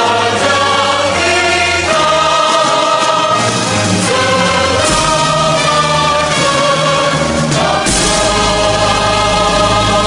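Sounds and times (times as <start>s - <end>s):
choir singing held chords: 0.0s - 10.0s.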